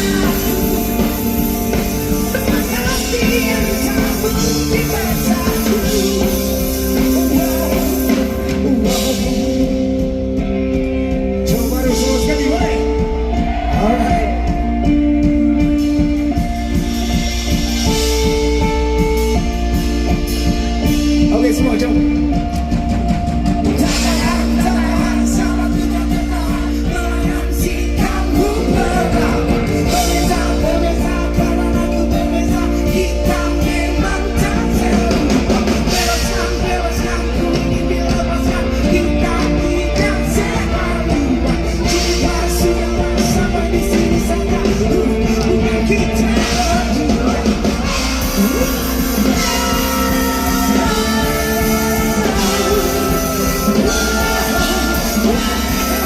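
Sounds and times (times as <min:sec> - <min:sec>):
person singing: 0:00.0 - 0:21.0, 0:21.6 - 0:56.0
heavy bass: 0:00.0 - 0:56.0
rock band playing: 0:00.0 - 0:56.0.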